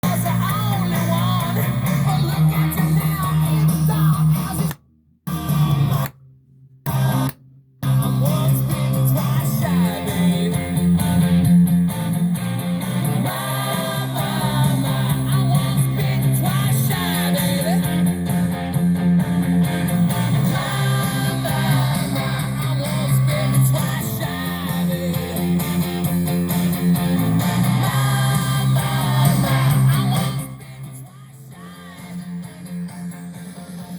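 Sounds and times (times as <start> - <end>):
guitar music with singing: 0.0 - 6.2, 6.8 - 33.9.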